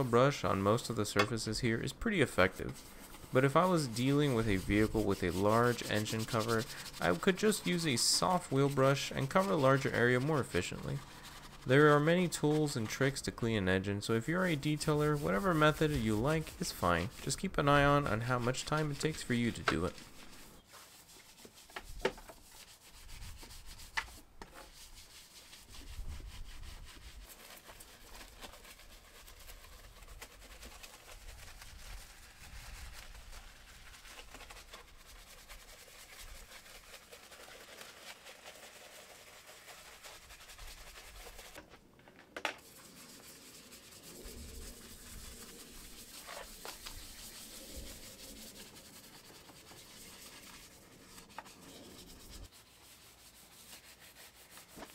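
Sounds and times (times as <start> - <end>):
brushes scrubbing plastic: 0.0 - 41.7, 42.6 - 54.9.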